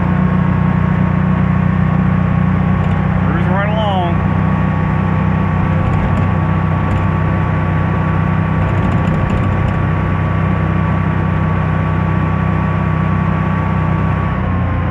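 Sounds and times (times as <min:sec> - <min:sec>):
thin steady whine: 0:00.0 - 0:14.2
engine drone: 0:00.0 - 0:14.9.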